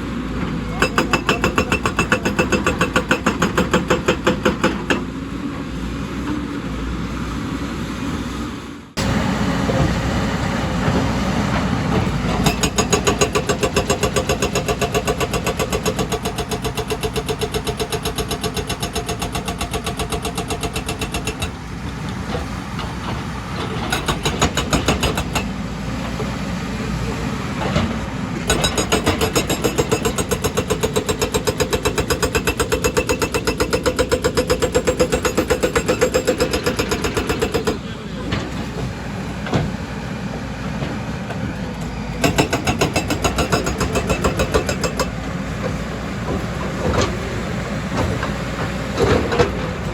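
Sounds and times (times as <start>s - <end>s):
excavator engine under load: 0.0s - 49.9s.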